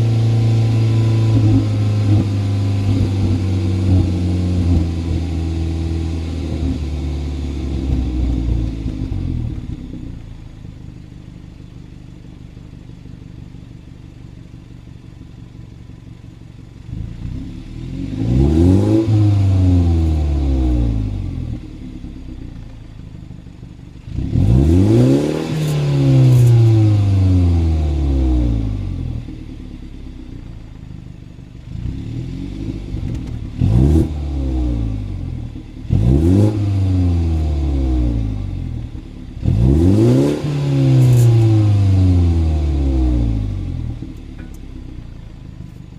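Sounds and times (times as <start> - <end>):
car engine idling and revving: 0.0 - 45.9
exhaust rattle: 0.0 - 45.9.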